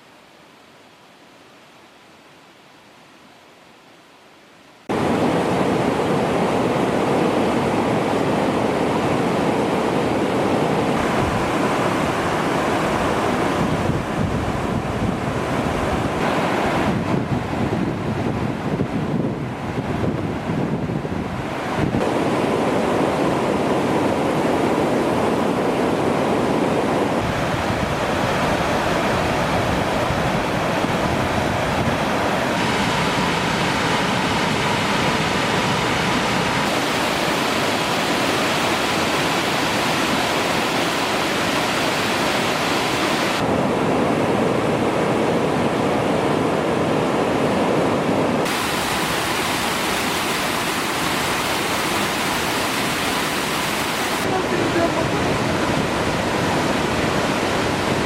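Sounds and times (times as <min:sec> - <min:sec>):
waterfall rushing: 0:04.8 - 0:18.8, 0:21.2 - 0:58.0.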